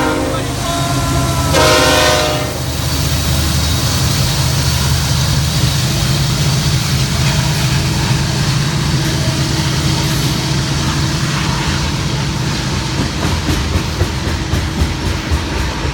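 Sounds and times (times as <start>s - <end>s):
freight train passing: 0.0s - 15.9s.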